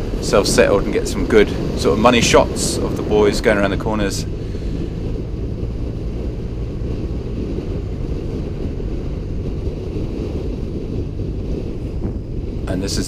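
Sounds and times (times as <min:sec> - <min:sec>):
motorcycle engine droning: 0:00.0 - 0:13.0
wind rushing over microphone: 0:00.0 - 0:13.0.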